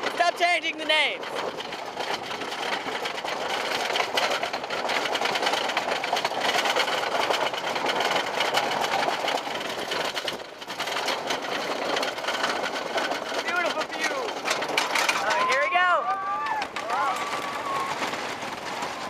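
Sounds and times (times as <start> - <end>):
roller coaster chain lift clatter: 0.0 - 19.0.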